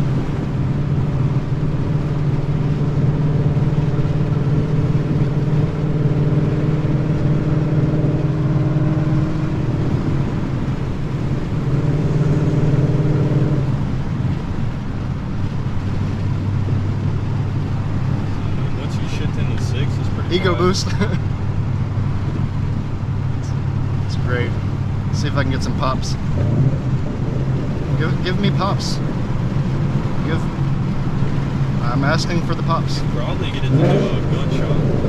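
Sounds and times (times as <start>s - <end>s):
car exhaust drone: 0.0s - 35.0s.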